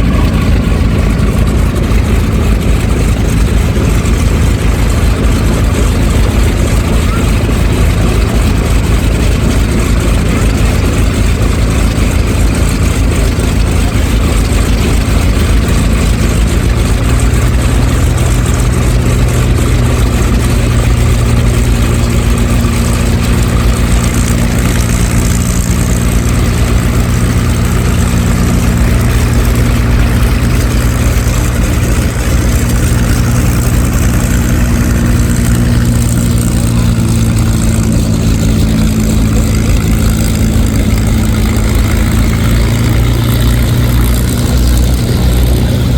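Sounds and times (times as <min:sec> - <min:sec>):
propeller aircraft engine idling: 0:00.0 - 0:45.9.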